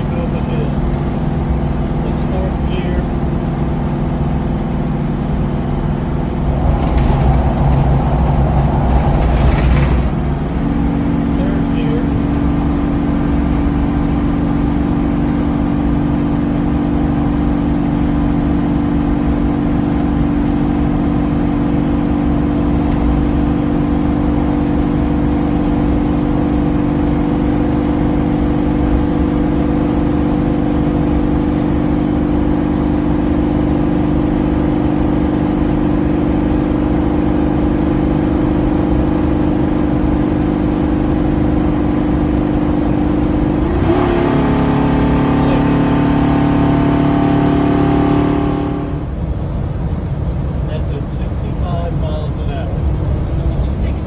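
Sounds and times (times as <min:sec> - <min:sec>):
engine hum: 0:00.0 - 0:54.0
road noise drone: 0:00.0 - 0:54.0.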